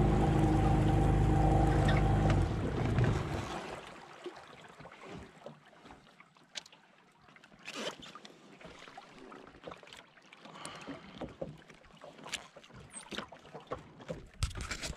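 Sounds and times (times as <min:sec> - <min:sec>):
water lapping against boat hull: 0:00.0 - 0:14.9.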